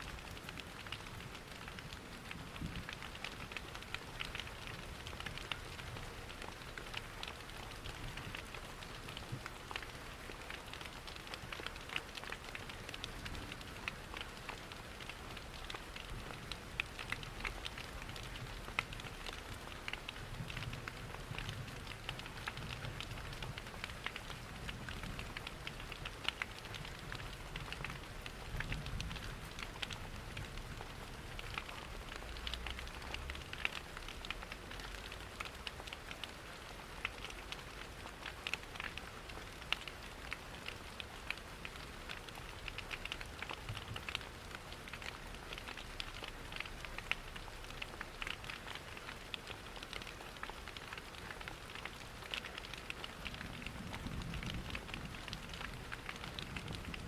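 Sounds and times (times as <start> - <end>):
rain pattering: 0.0 - 57.0
wood fire crackling: 0.2 - 57.0.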